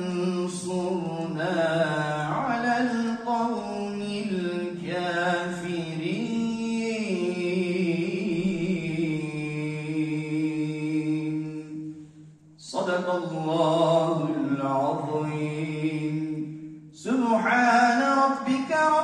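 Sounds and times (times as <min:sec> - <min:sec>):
man's melodic recitation: 0:00.0 - 0:11.9, 0:12.6 - 0:19.0.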